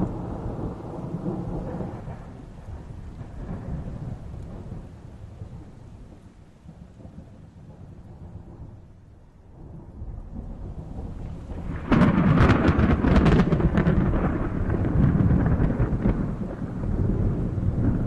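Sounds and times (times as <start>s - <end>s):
loud thunderclap: 0.0s - 8.8s, 9.6s - 18.0s
thunder rumbling: 0.0s - 18.0s.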